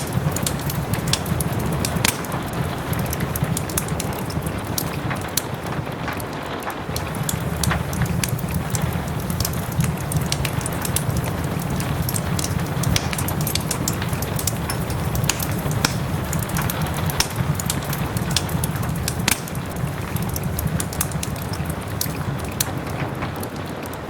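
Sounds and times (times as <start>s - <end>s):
soft rain: 0.0s - 24.0s
wood fire crackling: 0.0s - 24.0s.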